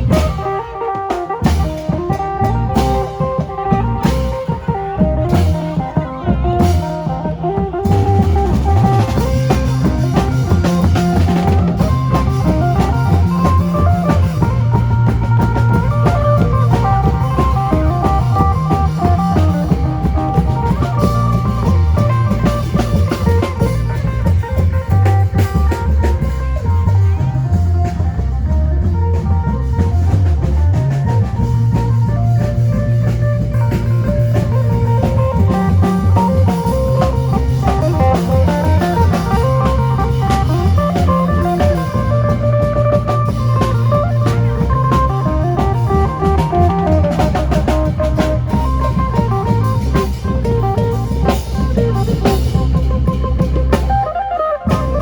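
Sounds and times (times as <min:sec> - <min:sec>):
bass guitar: 0:00.0 - 0:55.0
drum kit: 0:00.0 - 0:55.0.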